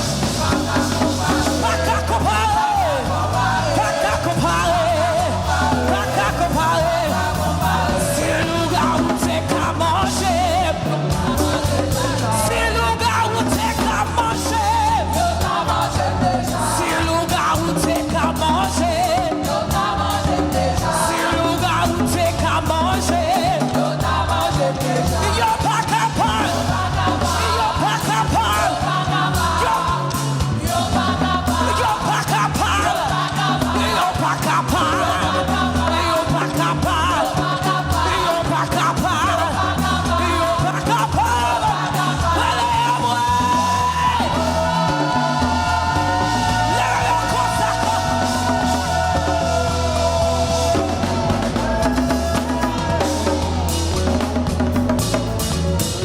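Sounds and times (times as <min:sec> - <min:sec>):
person singing with vibrato: 0:00.0 - 0:54.8
full band with bass and drums: 0:00.0 - 0:56.0.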